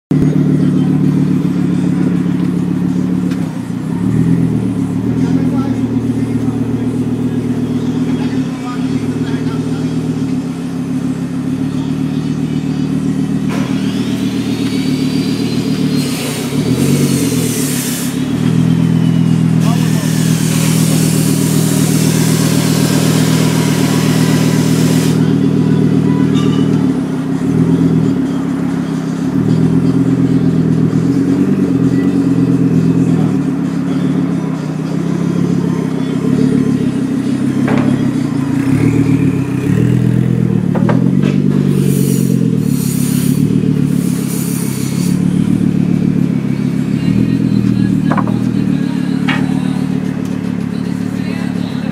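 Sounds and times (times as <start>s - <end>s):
raspy car engine idling: 0.0s - 51.9s.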